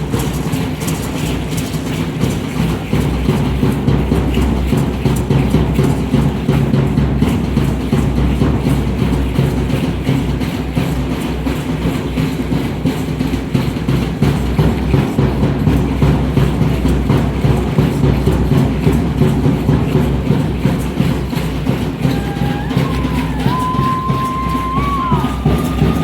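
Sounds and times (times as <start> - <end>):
fast steady drumming: 0.0 - 26.0.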